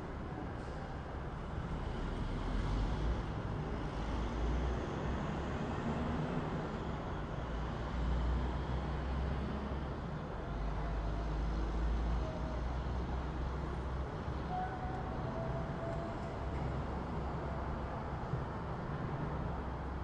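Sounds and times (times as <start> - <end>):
rumble of passing cars: 0.0 - 20.0.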